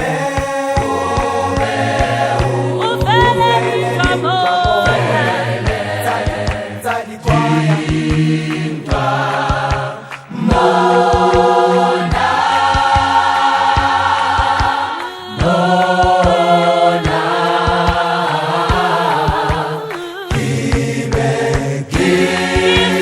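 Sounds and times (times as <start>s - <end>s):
choir singing in harmony: 0.0s - 23.0s
sharp percussive strikes: 0.0s - 23.0s.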